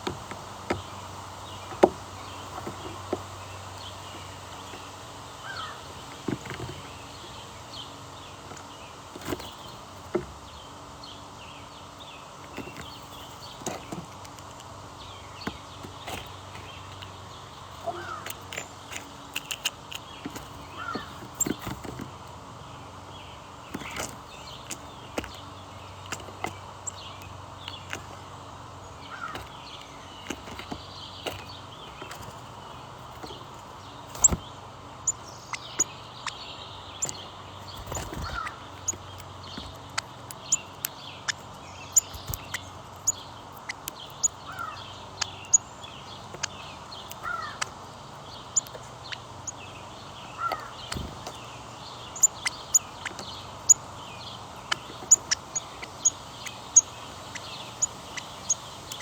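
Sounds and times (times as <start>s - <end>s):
birds chipping: 0.0s - 59.0s.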